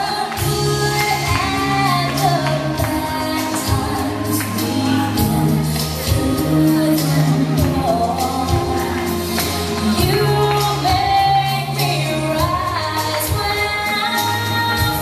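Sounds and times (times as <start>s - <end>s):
steady beat and bass line: 0.0s - 13.9s
person singing: 0.0s - 15.0s.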